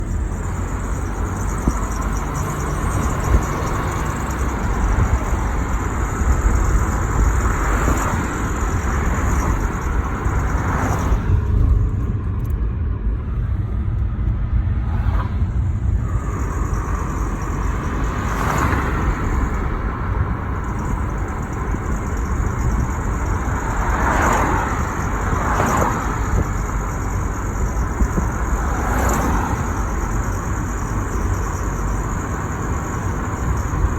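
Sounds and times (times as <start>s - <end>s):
car engine and road noise: 0.0s - 33.9s
passing traffic: 0.0s - 33.9s.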